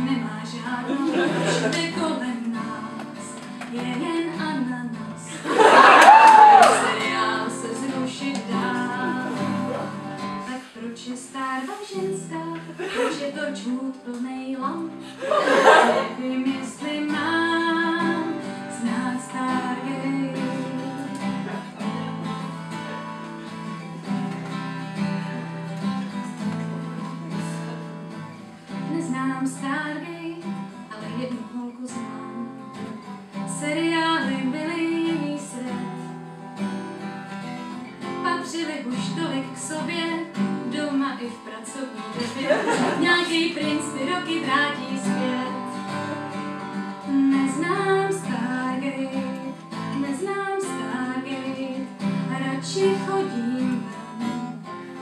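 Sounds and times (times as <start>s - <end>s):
acoustic guitar strumming: 0.0s - 13.8s, 14.6s - 55.0s.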